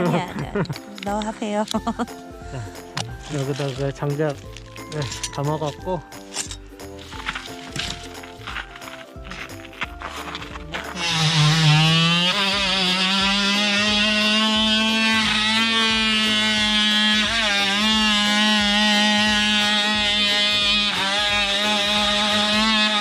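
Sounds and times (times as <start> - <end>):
electric multi-cutter cutting wood: 1.6 - 23.0.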